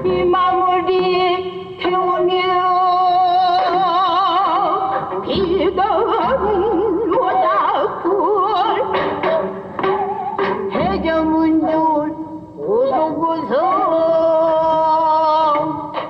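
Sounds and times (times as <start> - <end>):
plucked string accompaniment: 0.0 - 16.0.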